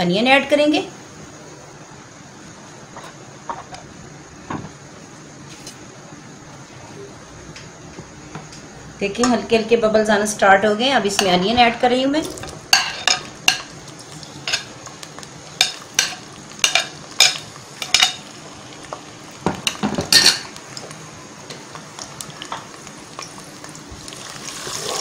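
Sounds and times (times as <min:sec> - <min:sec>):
onions sizzling in hot fat: 0:00.0 - 0:25.0.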